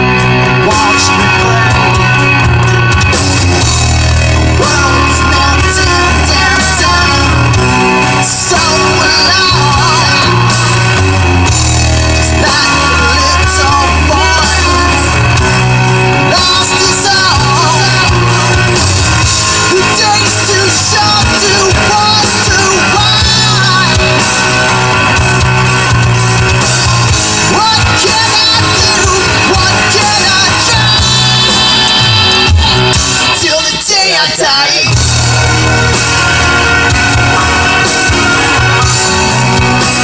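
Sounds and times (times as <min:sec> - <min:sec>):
hard rock song with singer: 0:00.0 - 0:40.0.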